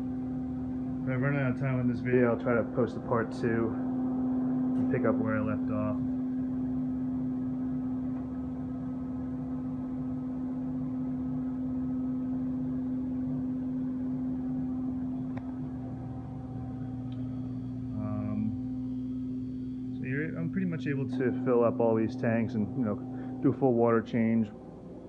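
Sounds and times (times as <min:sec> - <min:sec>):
electric water pump humming: 0:00.0 - 0:25.0.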